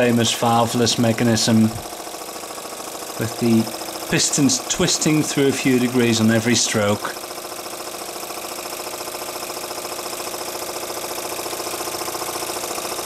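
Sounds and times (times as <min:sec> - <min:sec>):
model steam engine beat: 0:00.0 - 0:13.0.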